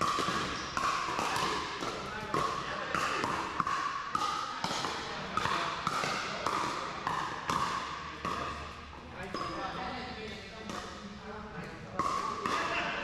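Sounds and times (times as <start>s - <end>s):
paddles hitting plastic ball: 0.0s - 9.5s, 11.9s - 13.0s.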